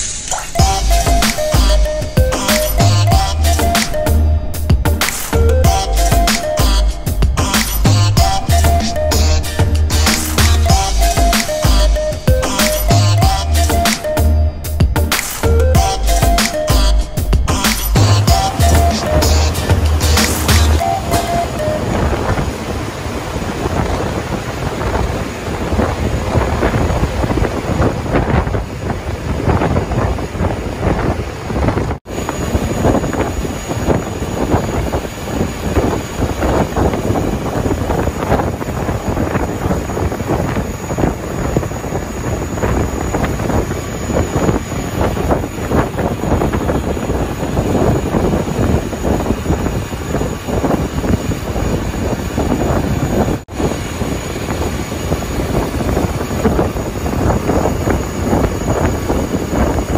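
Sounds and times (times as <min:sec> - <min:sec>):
boat engine: 0:00.0 - 0:59.9
wind buffeting microphone: 0:00.5 - 0:59.9.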